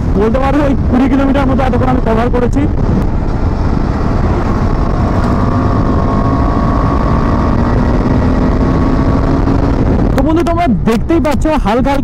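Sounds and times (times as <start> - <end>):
motorcycle engine running: 0.0 - 10.2
road noise: 0.0 - 12.0.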